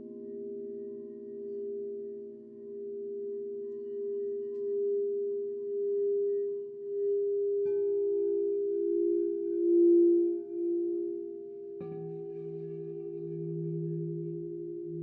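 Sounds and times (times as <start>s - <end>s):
crystal singing bowls ringing: 0.0s - 15.0s.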